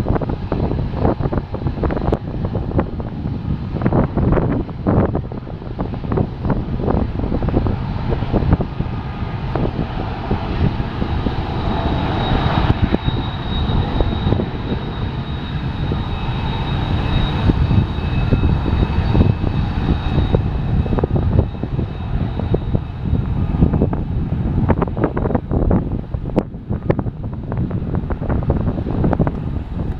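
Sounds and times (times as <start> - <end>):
diesel locomotives droning: 0.0 - 29.9
wind buffeting microphone: 0.0 - 29.9.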